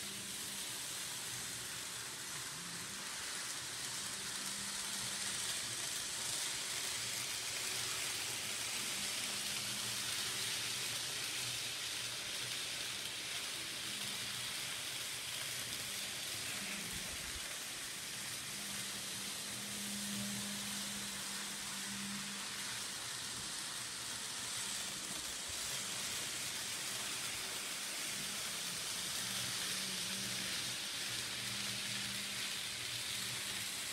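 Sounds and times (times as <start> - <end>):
model train running on track: 0.0 - 33.9.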